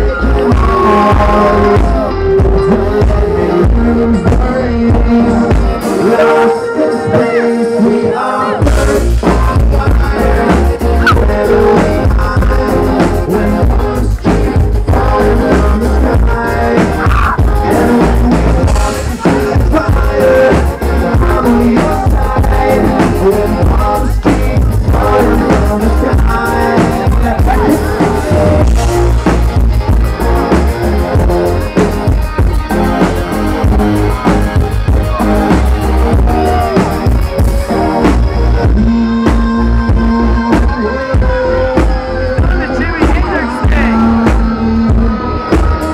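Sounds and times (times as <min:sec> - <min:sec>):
rock band music: 0:00.0 - 0:45.9.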